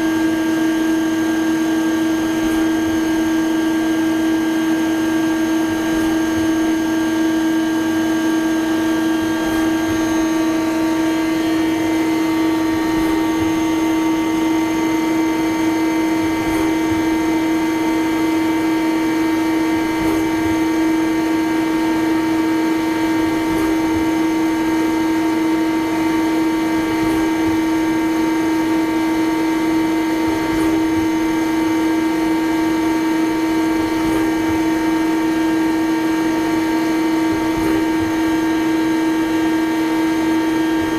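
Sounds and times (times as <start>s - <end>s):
lathe machine hum: 0.0s - 40.9s.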